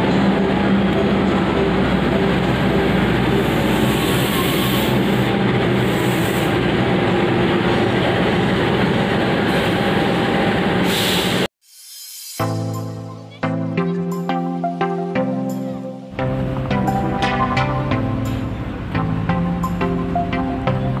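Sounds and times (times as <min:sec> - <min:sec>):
diesel locomotive engine drone: 0:00.0 - 0:13.0, 0:16.0 - 0:21.0.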